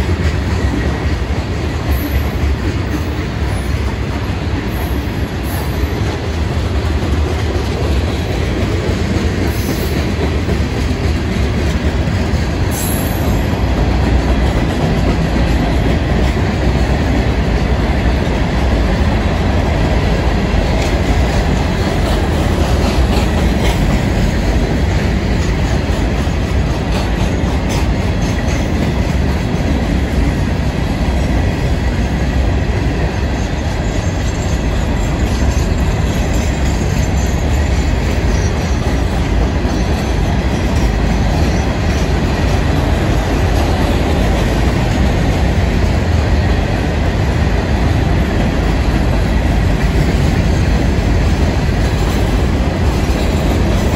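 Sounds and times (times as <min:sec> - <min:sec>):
clickety-clack over rail joints: 0:00.0 - 0:53.9
train wheels rumbling on rail: 0:00.0 - 0:53.9.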